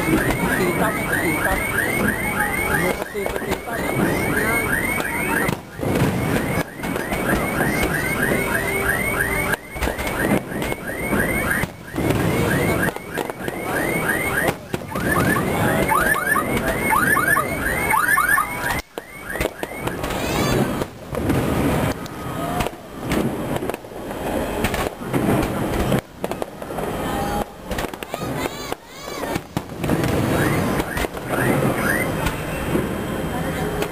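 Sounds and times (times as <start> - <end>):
fireworks bursting and crackling: 0.0 - 33.9.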